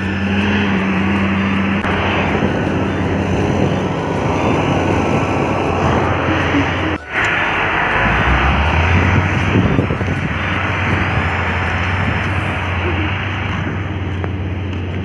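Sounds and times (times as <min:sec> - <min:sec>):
track machine engine droning: 0:00.0 - 0:15.0.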